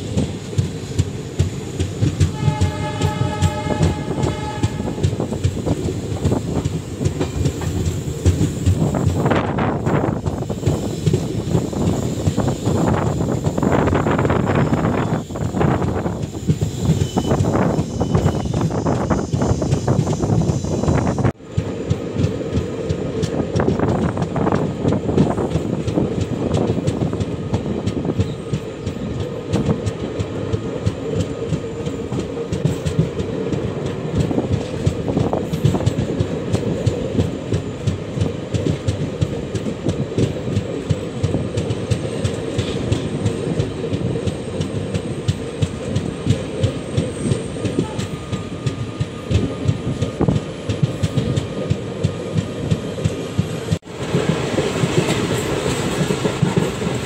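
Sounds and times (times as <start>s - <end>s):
train rumbling and clattering: 0.0s - 57.0s.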